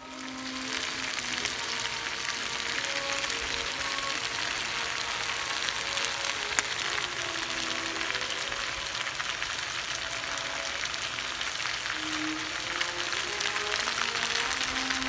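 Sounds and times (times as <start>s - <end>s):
potatoes and onions sizzling in pan: 0.0s - 15.0s.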